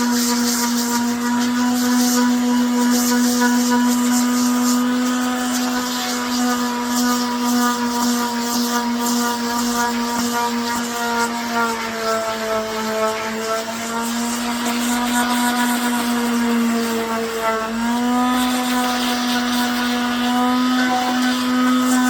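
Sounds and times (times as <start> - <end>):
small electric tool motor humming: 0.0 - 22.0.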